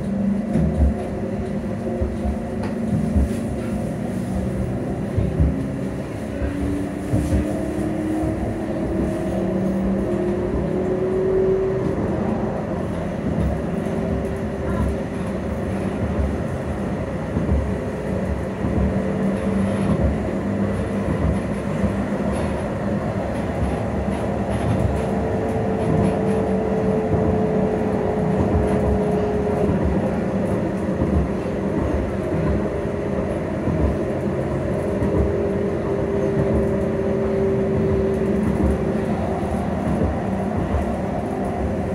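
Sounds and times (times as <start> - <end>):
tram wheels rumbling on rail: 0.0 - 41.9.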